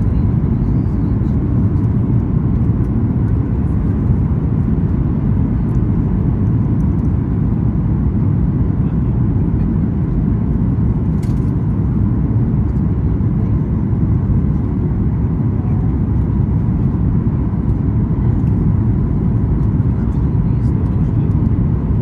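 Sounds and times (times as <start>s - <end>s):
jet engine and airflow rumble: 0.0s - 22.0s.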